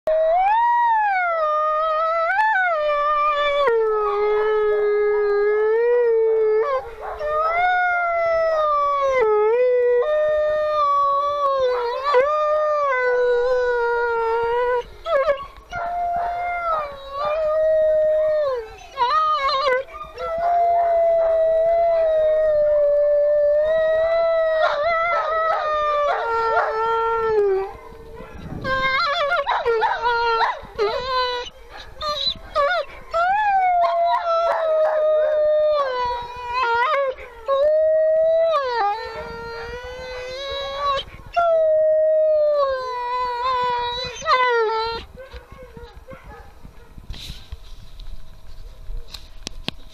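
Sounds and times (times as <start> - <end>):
wolf howling: 0.1 - 46.2.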